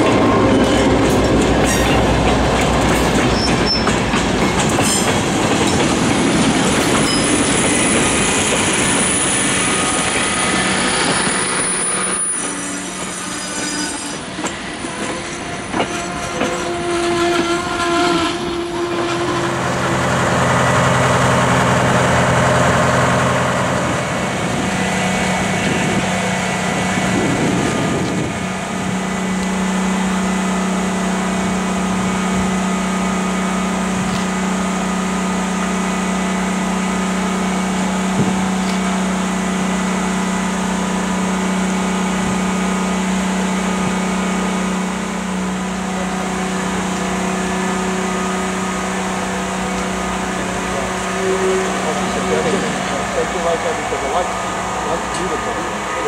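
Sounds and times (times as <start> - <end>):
passenger train rolling past: 0.0 - 56.0.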